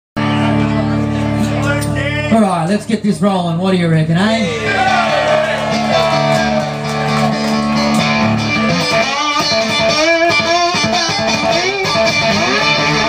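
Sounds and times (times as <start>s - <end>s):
guitar sliding notes: 0.2s - 2.4s, 4.4s - 13.0s.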